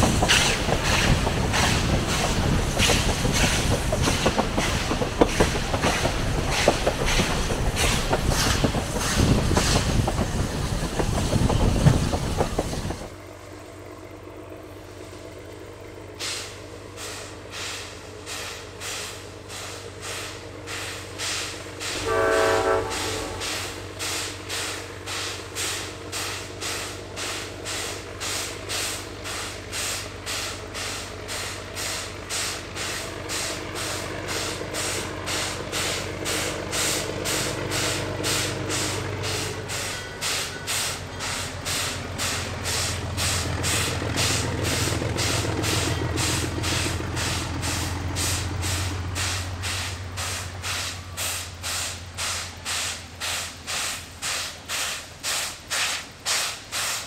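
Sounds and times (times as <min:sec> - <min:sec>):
low engine hum: 0:00.0 - 0:56.8
repeating locomotive pulse: 0:00.0 - 0:57.0.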